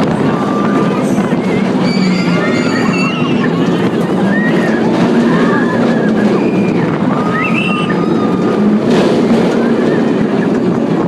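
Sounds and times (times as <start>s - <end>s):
roller coaster train rumbling: 0.0s - 11.0s
wind on microphone: 0.0s - 11.0s
riders screaming: 0.2s - 10.7s.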